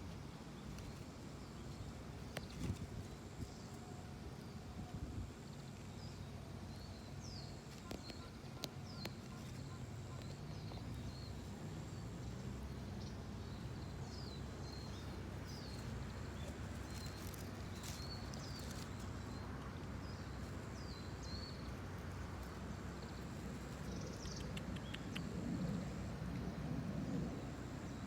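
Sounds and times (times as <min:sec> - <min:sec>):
small birds chirping: 0:00.0 - 0:03.8, 0:05.4 - 0:26.2
steady low hum: 0:00.0 - 0:28.0.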